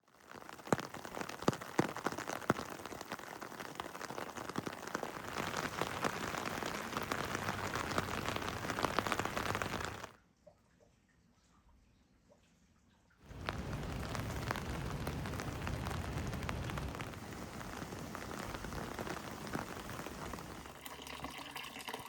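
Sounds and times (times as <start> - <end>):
heavy rain falling: 0.1 - 10.2, 13.3 - 21.1.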